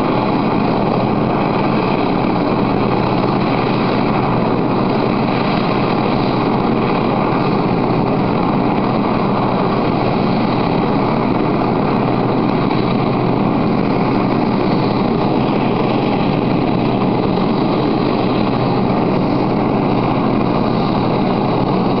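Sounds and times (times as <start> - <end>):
helicopter engine and rotor: 0.0 - 22.0
high turbine whine: 0.0 - 22.0.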